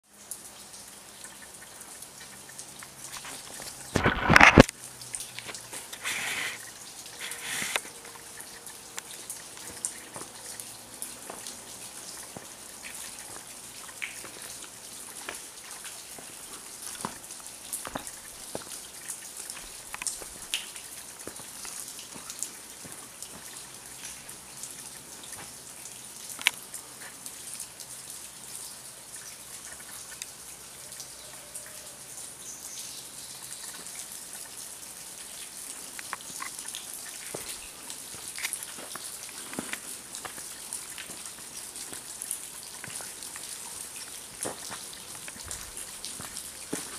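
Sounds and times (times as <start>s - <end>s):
steady hiss: 0.1s - 31.3s, 32.2s - 46.9s
water drops pattering: 6.6s - 31.9s, 33.2s - 46.9s.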